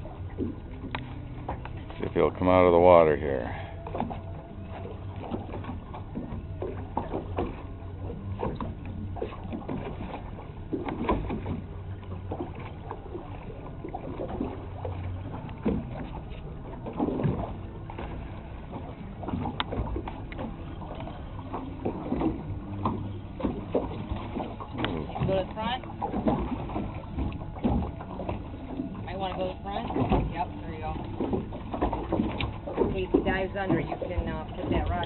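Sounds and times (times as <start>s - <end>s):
boat engine humming: 0.0s - 35.0s
water slapping against hull: 0.0s - 35.0s.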